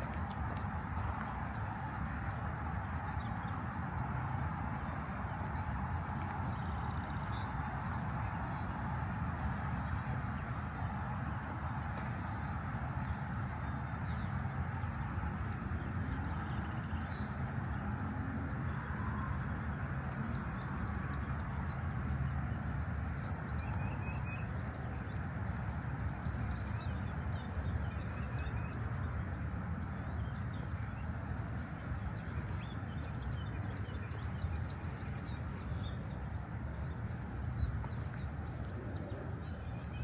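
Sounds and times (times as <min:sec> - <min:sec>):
low park ambience rumble: 0:00.0 - 0:40.0.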